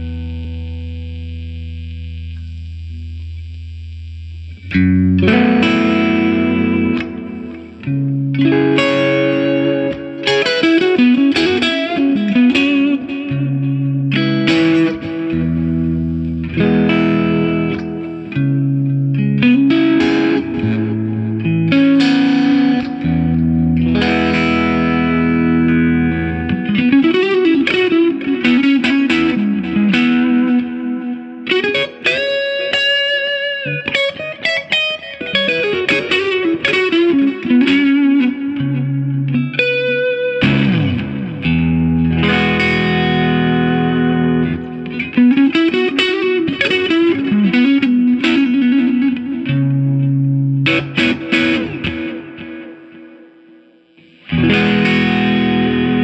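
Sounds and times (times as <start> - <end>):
electric guitar with echo: 0.0 - 56.0.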